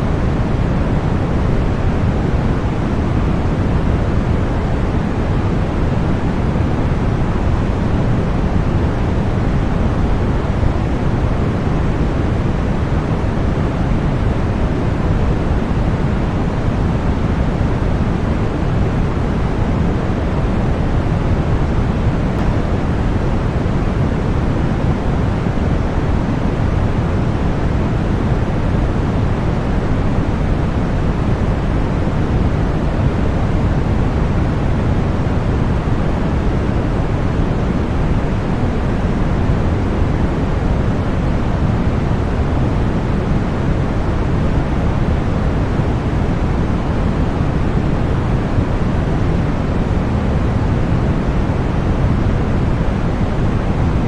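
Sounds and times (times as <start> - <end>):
deep white noise hiss: 0.0 - 54.0.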